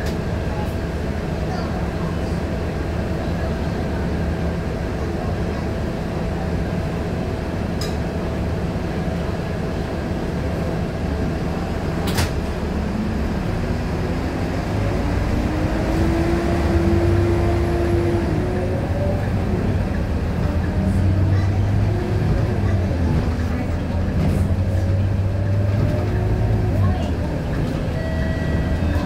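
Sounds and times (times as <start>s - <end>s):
bus diesel engine: 0.0s - 29.0s
road rumble: 0.0s - 29.0s.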